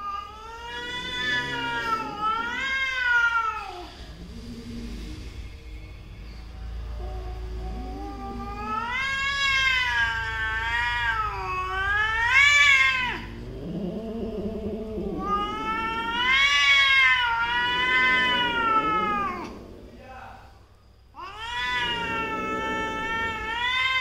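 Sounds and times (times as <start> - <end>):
cats yowling: 0.0 - 4.2, 6.9 - 20.0, 21.1 - 24.0
low rough cat call: 0.0 - 5.2, 6.3 - 24.0.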